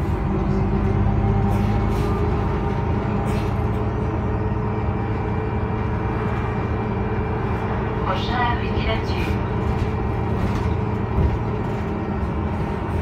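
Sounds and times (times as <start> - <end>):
bus engine hum: 0.0 - 13.0
road rumble: 0.0 - 13.0.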